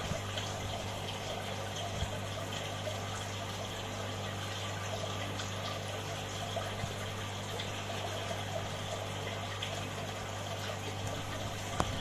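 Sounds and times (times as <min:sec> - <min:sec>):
low electric hum: 0:00.0 - 0:12.0
water trickling: 0:00.0 - 0:12.0.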